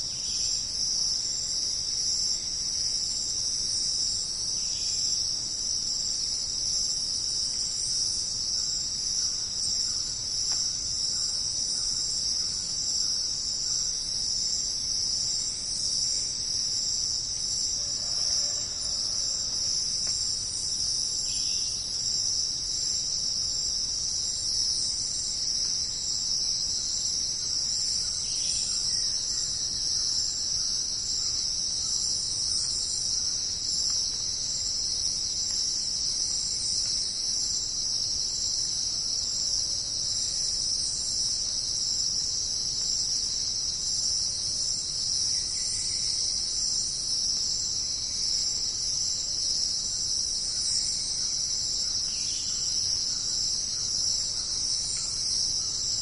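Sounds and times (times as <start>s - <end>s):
insects buzzing trill: 0.0s - 56.0s.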